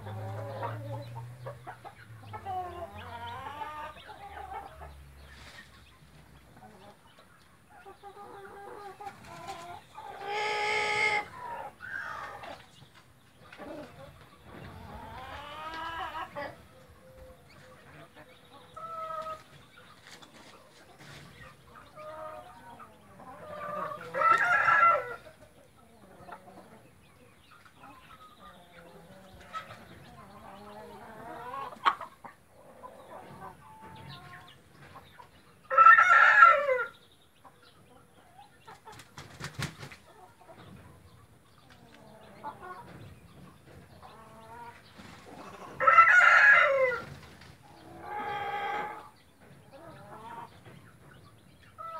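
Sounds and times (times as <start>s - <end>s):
chickens clucking softly: 0.0s - 51.9s.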